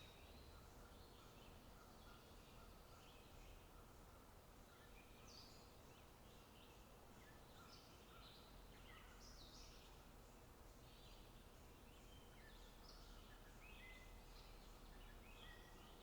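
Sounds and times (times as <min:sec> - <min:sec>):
low background hiss and rumble: 0:00.0 - 0:16.0.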